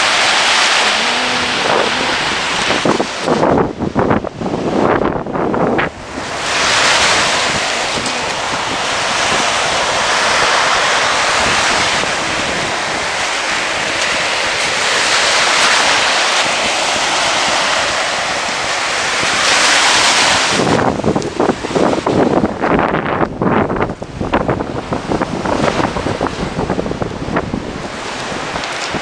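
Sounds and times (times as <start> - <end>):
surf washing onto beach: 0.0 - 29.0
wind on microphone: 0.0 - 29.0.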